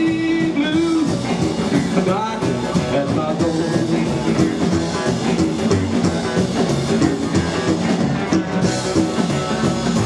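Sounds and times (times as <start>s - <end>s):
double bass: 0.0s - 10.0s
drums: 0.0s - 10.0s
electric guitar: 0.0s - 10.0s
rockabilly band playing: 0.0s - 10.0s.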